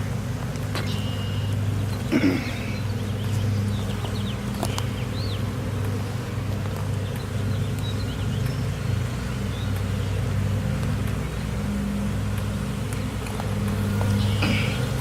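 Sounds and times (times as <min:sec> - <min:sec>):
honey bees humming: 0:00.0 - 0:15.0.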